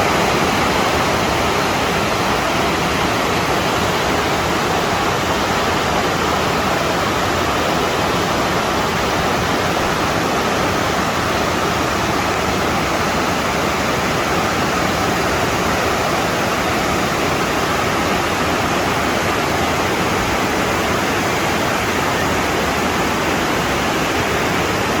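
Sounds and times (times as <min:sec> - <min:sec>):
water rushing over cascades: 0:00.0 - 0:25.0.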